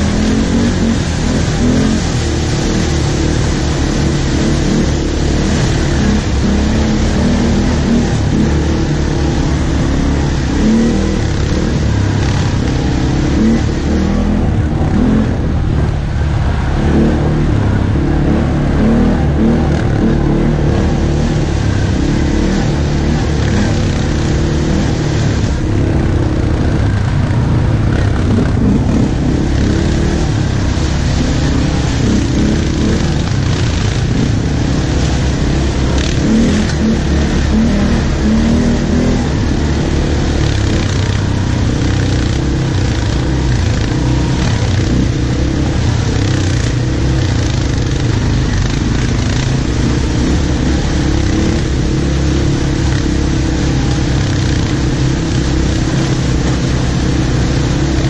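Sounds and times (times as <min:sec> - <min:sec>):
quad bike engine running: 0:00.0 - 0:58.0
rushing noise: 0:00.0 - 0:58.0.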